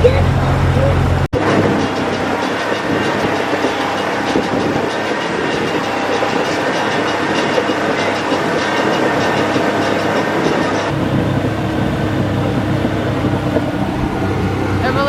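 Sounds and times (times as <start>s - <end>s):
motorboat running at speed: 0.0s - 15.0s.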